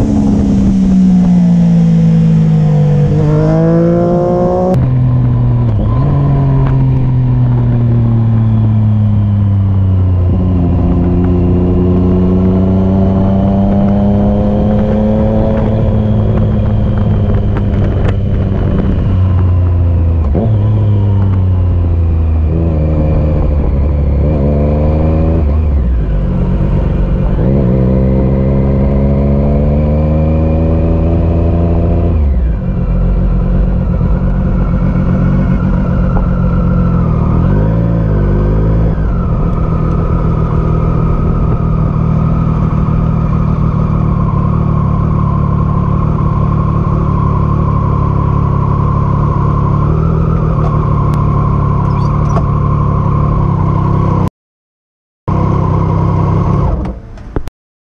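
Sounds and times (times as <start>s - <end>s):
motorcycle engine revving: 0.0s - 54.3s, 55.3s - 57.1s.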